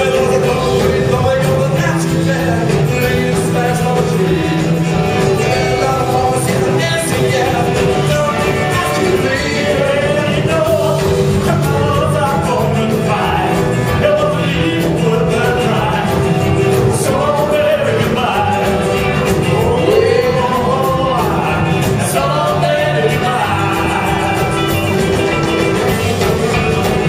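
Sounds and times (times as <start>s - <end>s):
person singing: 0.0s - 24.8s
rockabilly band playing: 0.0s - 27.0s.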